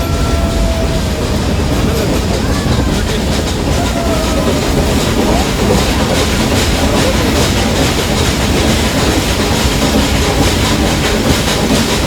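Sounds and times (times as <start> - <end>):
train carriages rumbling: 0.0 - 12.0
wheels clacking over rail joints: 0.0 - 12.0.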